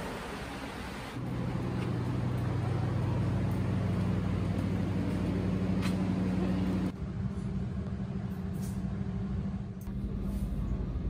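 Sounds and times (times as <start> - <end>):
stationary train humming: 0.0 - 11.0.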